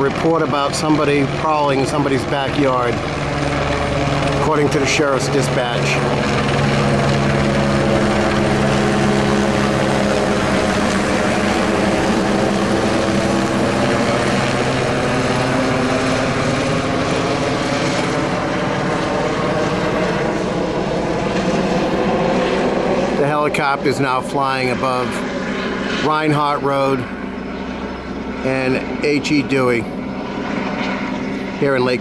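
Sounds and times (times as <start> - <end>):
helicopter rotor blades and engine: 0.0 - 32.0.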